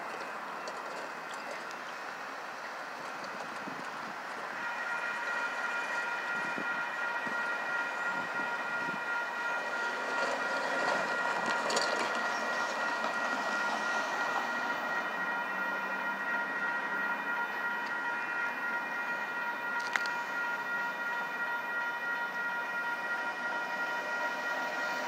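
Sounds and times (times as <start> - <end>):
warning bell ringing: 4.0 - 25.0.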